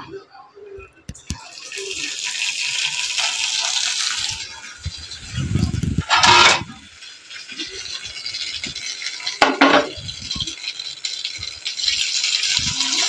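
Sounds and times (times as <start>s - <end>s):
hot oil sizzling: 1.3s - 13.0s.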